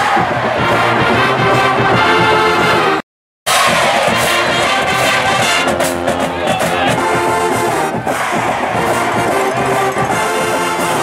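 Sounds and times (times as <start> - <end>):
brass instruments playing held notes: 0.0 - 11.0
crowd noise: 0.0 - 11.0.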